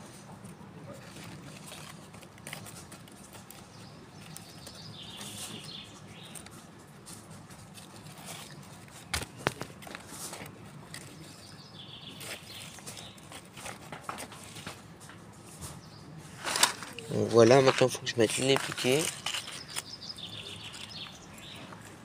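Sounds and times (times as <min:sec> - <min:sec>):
hands scraping and patting soil: 0:00.0 - 0:22.0.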